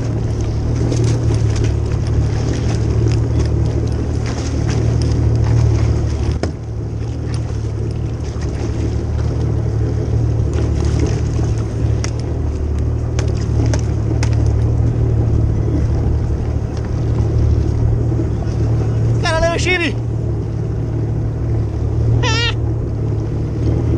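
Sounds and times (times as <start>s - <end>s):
jet ski engine droning: 0.0s - 23.9s.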